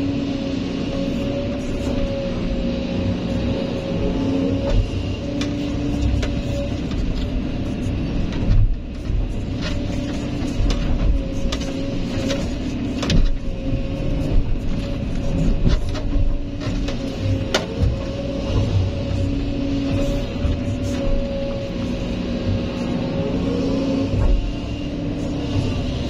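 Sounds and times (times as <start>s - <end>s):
excavator diesel engine whining: 0.0s - 26.0s.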